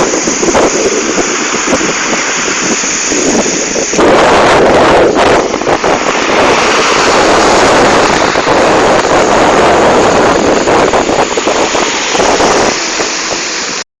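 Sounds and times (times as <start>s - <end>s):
wind buffeting microphone: 0.0s - 13.8s
ocean waves surging: 0.0s - 13.9s.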